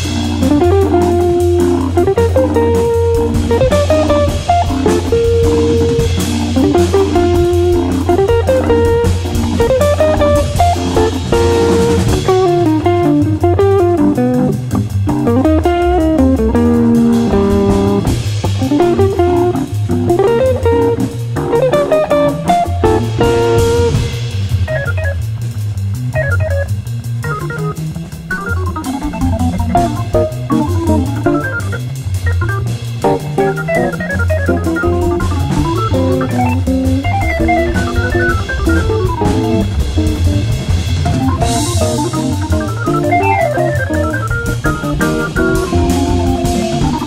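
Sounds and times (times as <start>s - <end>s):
drum kit: 0.0s - 47.0s
electric guitar melody: 0.0s - 47.0s
low bass line: 0.0s - 47.0s.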